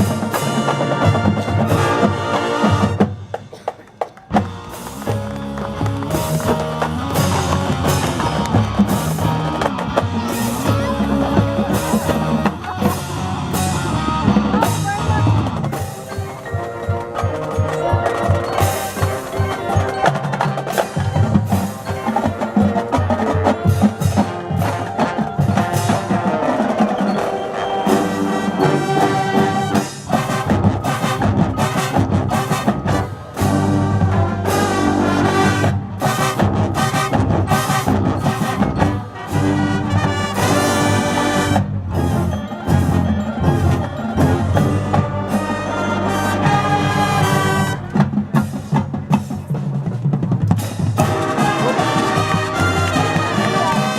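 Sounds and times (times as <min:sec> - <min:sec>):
marching band playing: 0:00.0 - 0:53.9.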